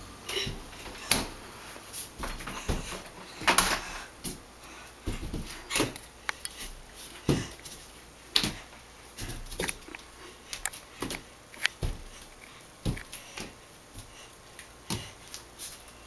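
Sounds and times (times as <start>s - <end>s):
hands and feet thumping walls: 0.3s - 14.2s, 14.8s - 15.8s.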